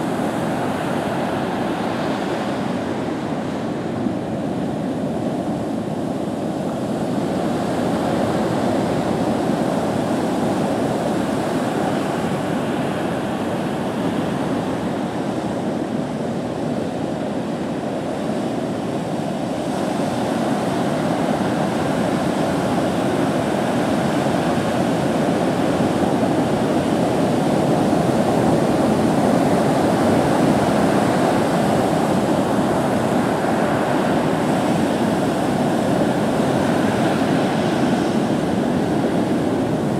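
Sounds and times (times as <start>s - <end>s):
heavy surf breaking on beach: 0.0s - 39.9s.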